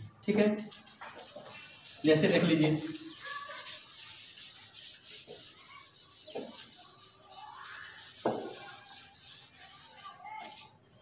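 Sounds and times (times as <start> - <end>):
duster wiping blackboard: 0.8 - 10.7.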